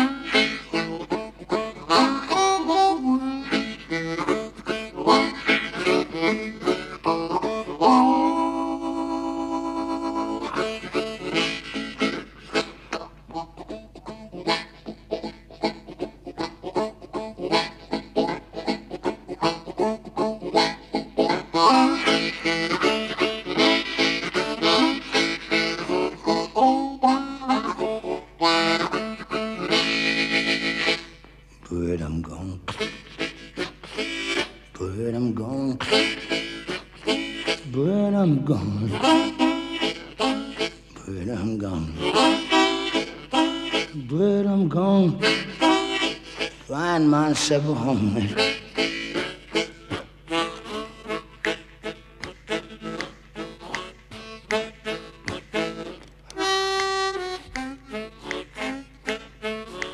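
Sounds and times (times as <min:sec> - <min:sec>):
blues harmonica playing: 0:00.0 - 0:59.9.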